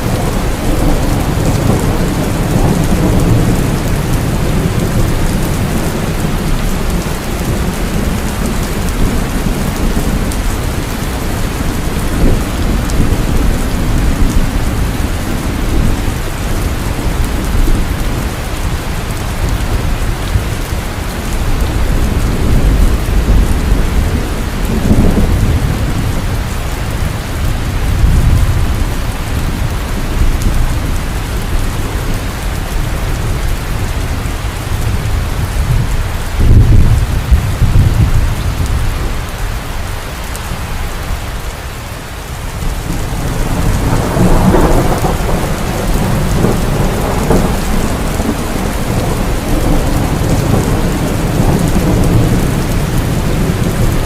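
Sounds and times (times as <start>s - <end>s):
rolling thunder: 0.0s - 39.4s, 42.5s - 54.0s
heavy rain falling: 0.0s - 54.0s.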